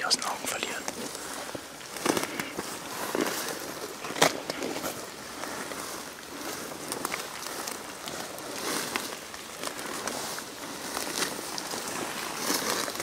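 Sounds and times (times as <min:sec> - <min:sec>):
footsteps through undergrowth: 0:00.0 - 0:13.0.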